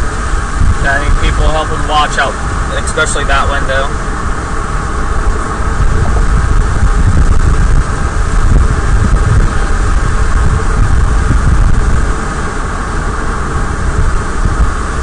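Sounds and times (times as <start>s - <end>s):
vehicle cabin road and engine noise: 0.0s - 15.0s.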